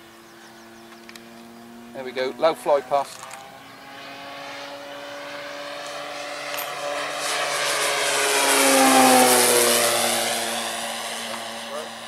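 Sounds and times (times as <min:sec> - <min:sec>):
model plane motor droning: 0:00.0 - 0:12.0.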